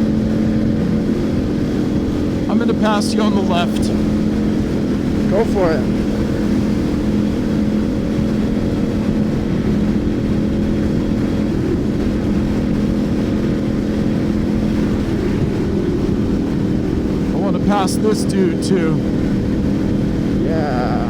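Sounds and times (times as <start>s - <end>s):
motorcycle engine running: 0.0s - 21.0s
wind over microphone: 0.0s - 21.0s.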